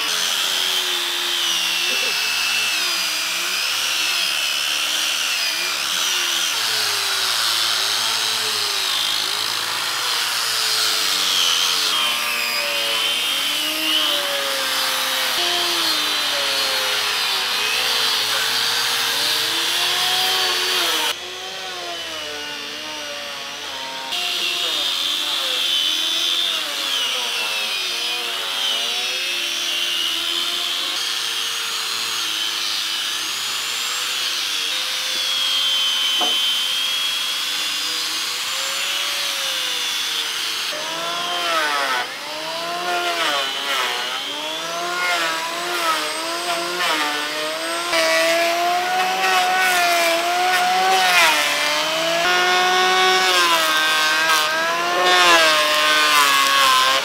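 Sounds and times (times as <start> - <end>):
electric hand planer cutting wood: 0.0 - 57.0
orbital sanders whining: 0.0 - 57.0.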